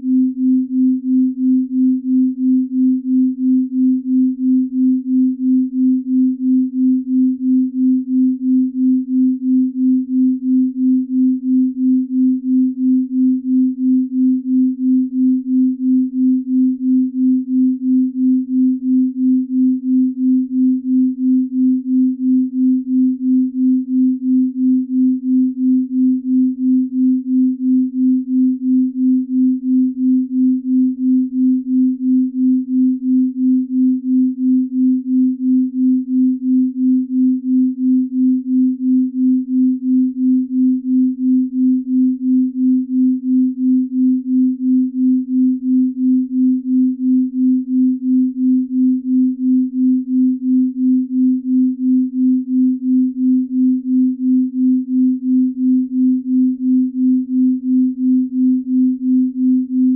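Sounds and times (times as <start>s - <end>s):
pulsing sine tone: 0.0s - 59.9s.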